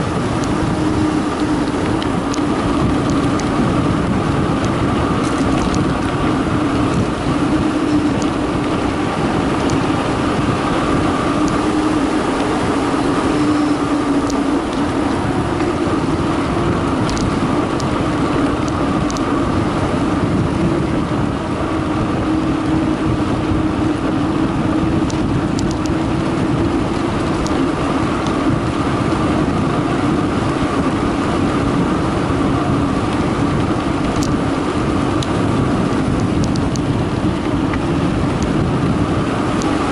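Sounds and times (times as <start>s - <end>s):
bike ticks and rattles: 0.0s - 39.9s
bike tyres rolling on concrete: 0.0s - 39.9s
wind on microphone: 0.0s - 39.9s.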